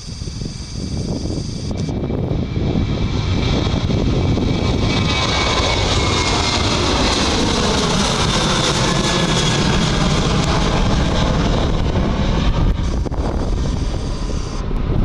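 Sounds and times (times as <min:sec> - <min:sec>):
jet engines passing: 0:00.0 - 0:15.0
wind buffeting microphone: 0:00.0 - 0:15.0.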